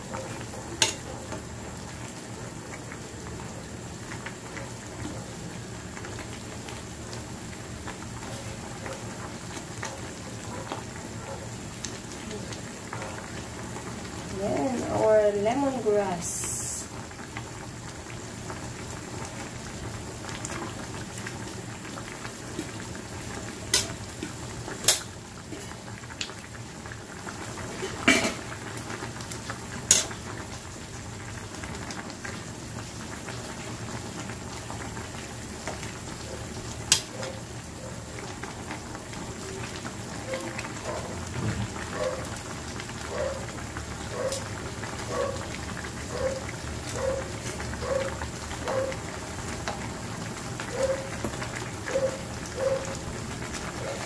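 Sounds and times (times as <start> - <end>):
soup boiling and bubbling: 0.0 - 54.0.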